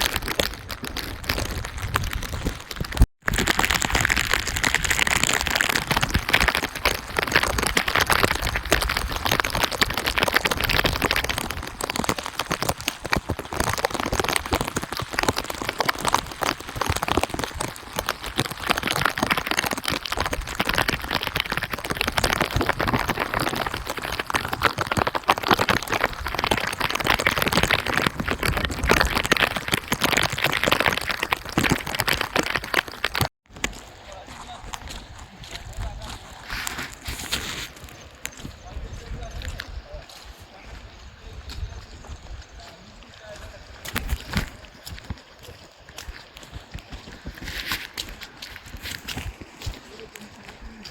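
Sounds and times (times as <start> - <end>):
heavy rain pattering: 0.0 - 50.9.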